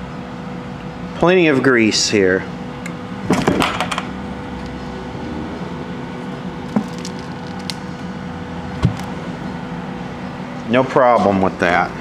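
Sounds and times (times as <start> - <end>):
shop machine hum: 0.0 - 12.0.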